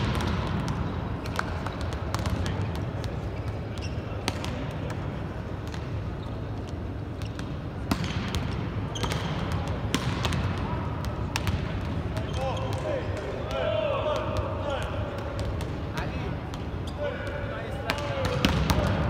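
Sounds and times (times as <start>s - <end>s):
indoor hall noise: 0.0s - 19.0s.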